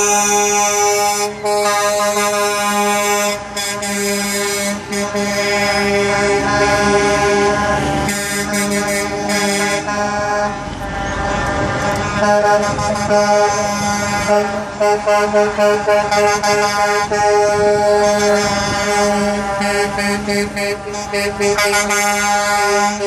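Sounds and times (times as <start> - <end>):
passing truck: 0.0 - 23.0
truck air horn blasts: 0.0 - 23.0.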